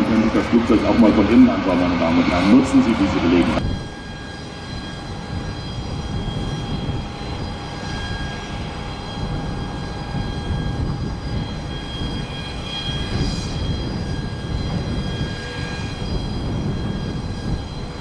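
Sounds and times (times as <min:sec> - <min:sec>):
thin whining tones: 0:00.0 - 0:18.0
turboprop engines rumbling: 0:00.0 - 0:18.0.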